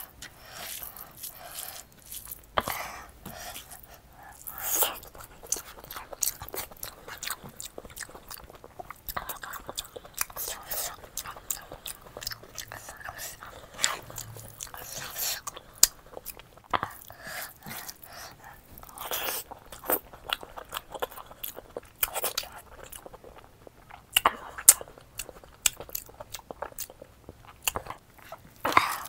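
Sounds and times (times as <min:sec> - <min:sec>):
person chewing and crunching food: 0:00.0 - 0:29.0.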